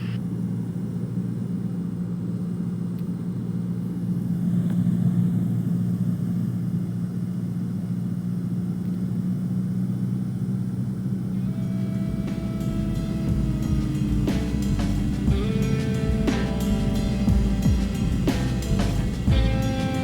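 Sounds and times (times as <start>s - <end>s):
airplane engine and propeller droning: 0.0s - 20.0s.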